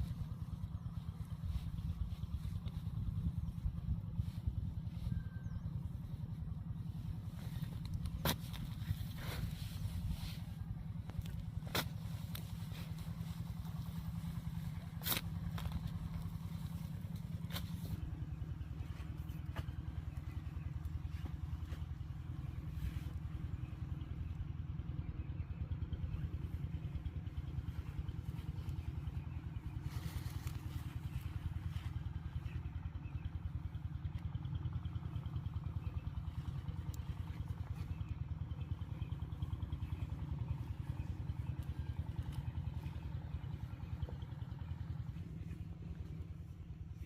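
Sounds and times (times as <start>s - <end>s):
small engine running: 0.0s - 47.0s.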